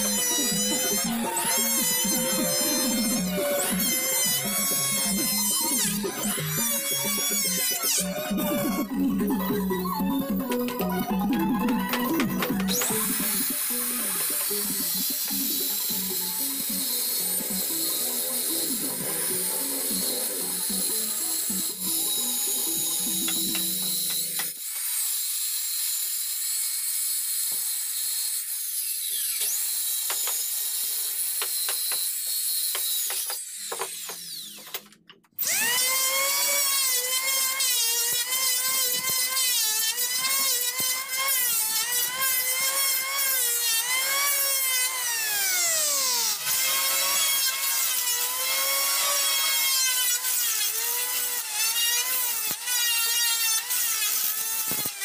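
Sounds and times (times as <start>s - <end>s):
power planer whining: 0.0s - 24.6s, 35.4s - 55.0s
circular saw cutting wood: 0.0s - 55.0s.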